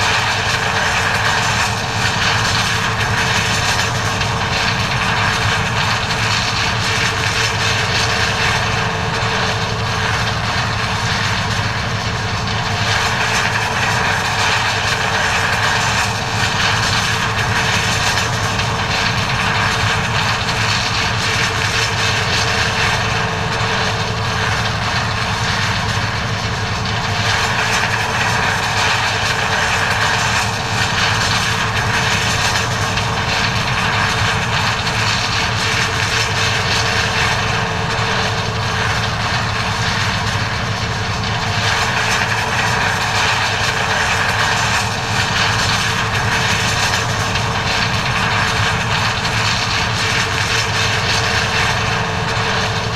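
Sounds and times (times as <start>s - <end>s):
combine harvester engine droning: 0.0s - 52.9s.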